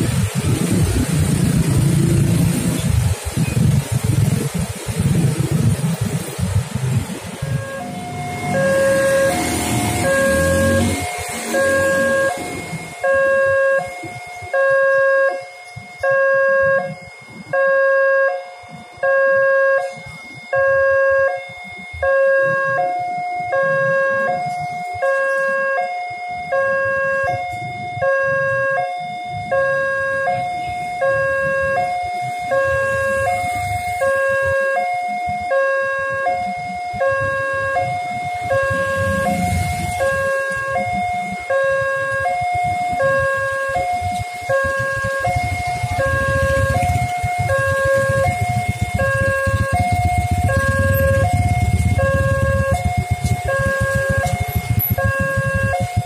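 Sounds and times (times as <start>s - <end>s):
motorcycle traffic: 0.0s - 56.0s
level crossing two-tone alarm: 4.9s - 56.0s.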